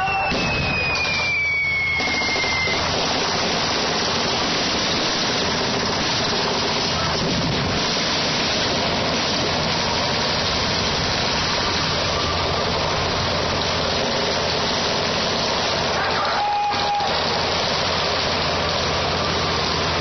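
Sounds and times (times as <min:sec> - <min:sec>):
constant rushing noise: 0:00.0 - 0:20.0
vehicle engines idling: 0:00.8 - 0:20.0.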